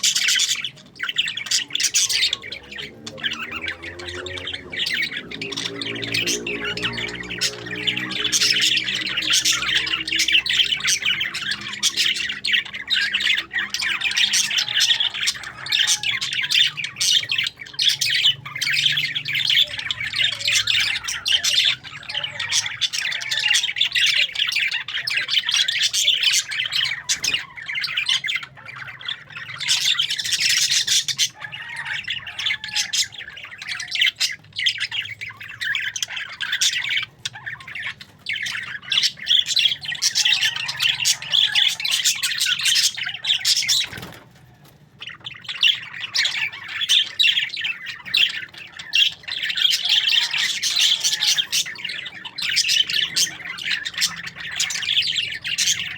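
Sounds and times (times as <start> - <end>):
parakeets chattering and squawking: 0.0 - 55.9.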